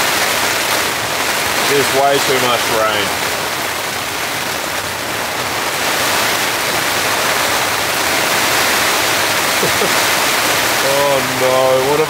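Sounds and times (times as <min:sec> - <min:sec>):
heavy rain on tent: 0:00.0 - 0:12.0.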